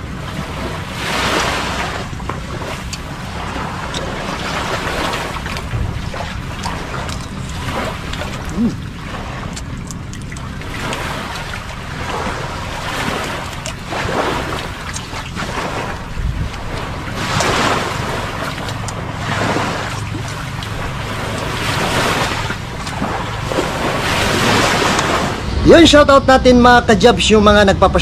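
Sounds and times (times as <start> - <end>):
sea waves washing onto beach: 0.0 - 27.3
wind on microphone: 0.0 - 28.0.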